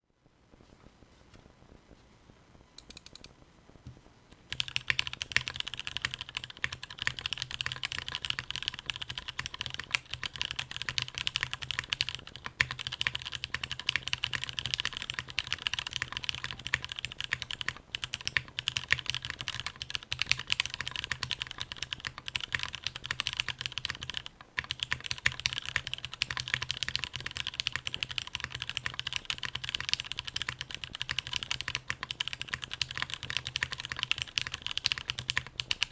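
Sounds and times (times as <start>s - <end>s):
fast typing on mechanical keyboard: 4.5s - 35.9s.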